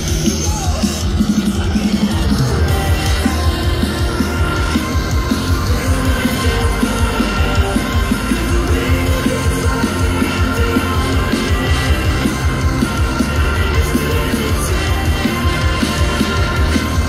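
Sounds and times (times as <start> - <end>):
distorted guitars: 0.0 - 17.0
drums beating: 0.0 - 17.0.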